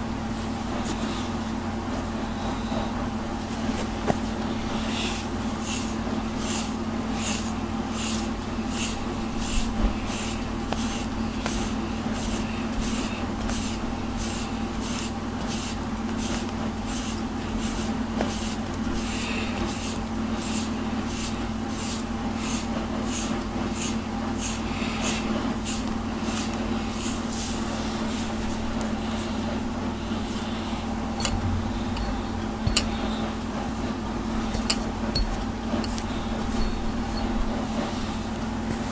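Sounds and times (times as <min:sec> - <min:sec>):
steady low hum: 0:00.0 - 0:38.9
brush scratching through fur: 0:03.6 - 0:38.9.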